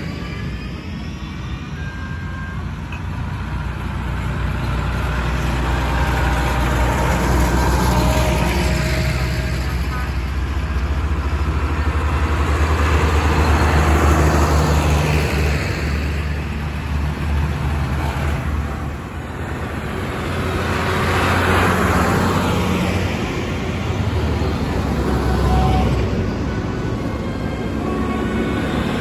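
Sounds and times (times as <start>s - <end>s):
tractor diesel engines droning: 0.0s - 29.0s.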